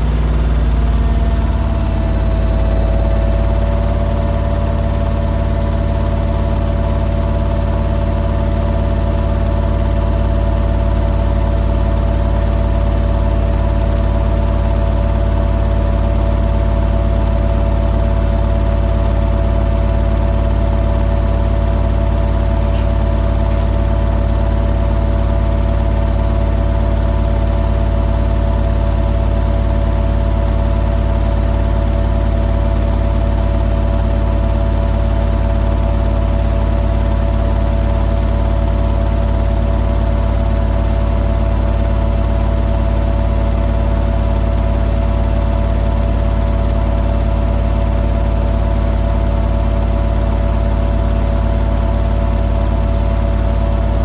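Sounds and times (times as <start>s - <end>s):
washing machine drum spinning: 0.0s - 54.0s.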